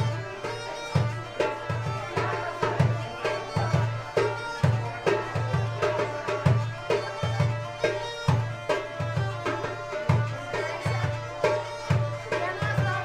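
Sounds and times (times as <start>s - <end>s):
bagpipe playing a dance tune: 0.0s - 13.0s
percussion beating a rhythm: 0.0s - 13.0s.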